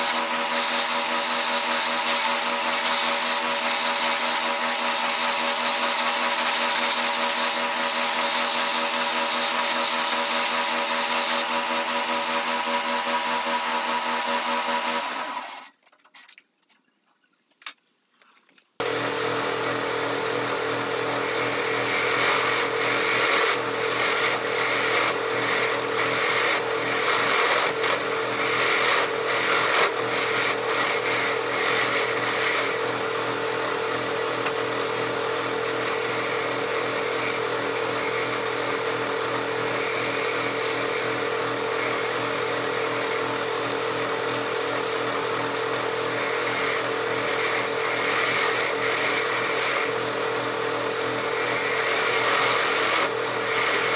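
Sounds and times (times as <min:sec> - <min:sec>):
wood lathe motor hum: 0:00.0 - 0:15.7, 0:18.8 - 0:53.9.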